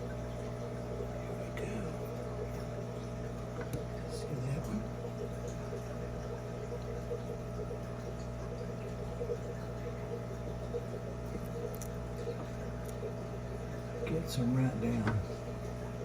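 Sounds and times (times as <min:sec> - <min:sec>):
faint water bubbling: 0:00.0 - 0:16.0
low machine hum: 0:00.0 - 0:16.0.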